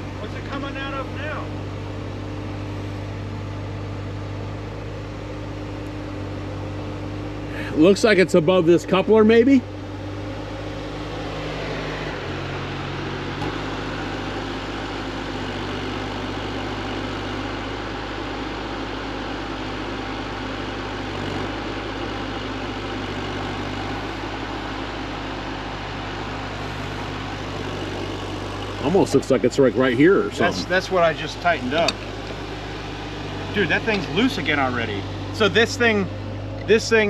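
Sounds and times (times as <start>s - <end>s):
excavator diesel engine idling: 0.0s - 37.0s.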